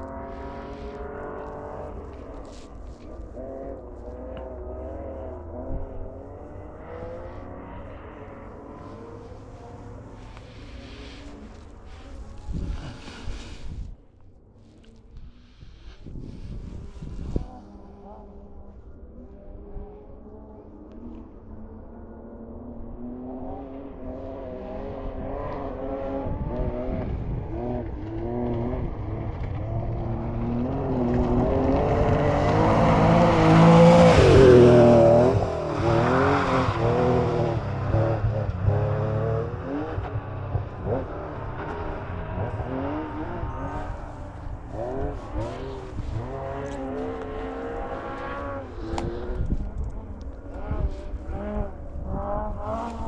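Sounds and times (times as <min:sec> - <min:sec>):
rally car engine revving: 0:00.0 - 0:13.8, 0:14.8 - 0:53.0.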